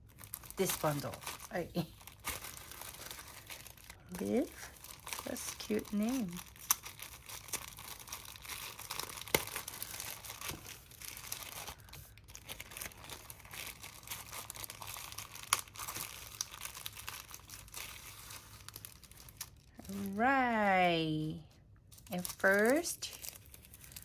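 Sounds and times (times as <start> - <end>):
packaging crinkling: 0.0 - 20.4, 21.8 - 24.0.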